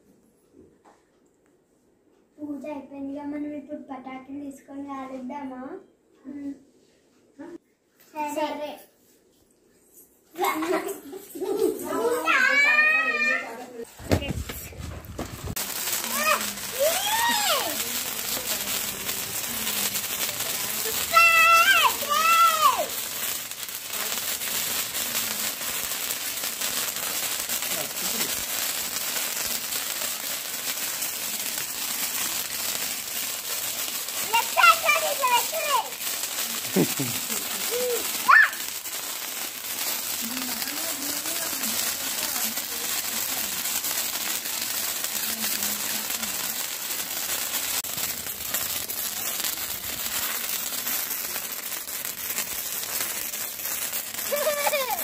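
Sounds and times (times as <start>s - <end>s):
firework crackling hiss: 10.4s - 55.0s.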